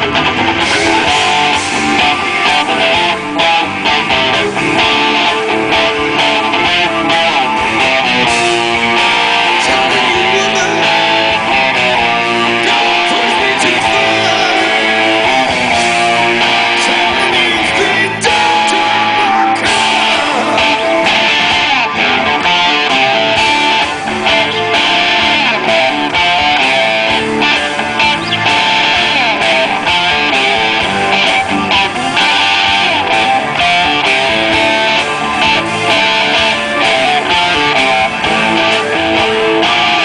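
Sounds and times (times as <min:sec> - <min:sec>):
electric guitars: 0:00.0 - 0:40.0
live rock band playing: 0:00.0 - 0:40.0.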